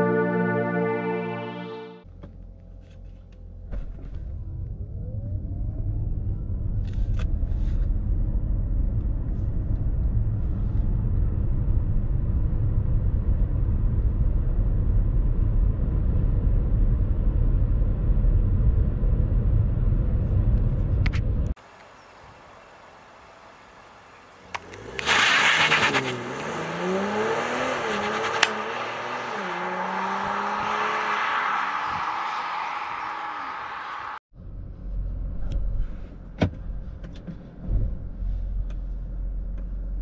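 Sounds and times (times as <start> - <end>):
car cabin road rumble: 2.0 - 21.6, 23.9 - 40.0.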